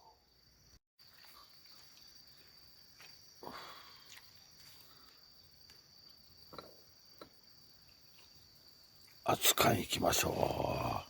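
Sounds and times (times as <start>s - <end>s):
high-pitched insect trill: 0.1s - 11.0s.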